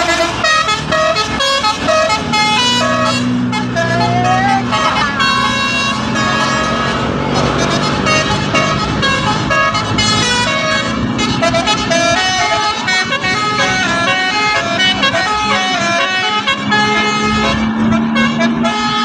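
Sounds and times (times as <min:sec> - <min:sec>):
multi-tone bus horn tune: 0:00.0 - 0:19.0.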